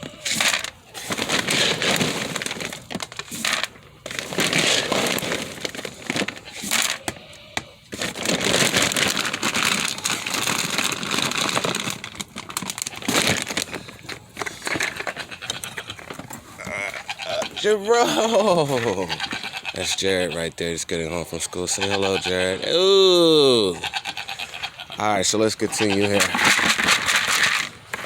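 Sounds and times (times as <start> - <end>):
feed pellets and bag rustling: 0.0 - 20.0, 23.3 - 28.0.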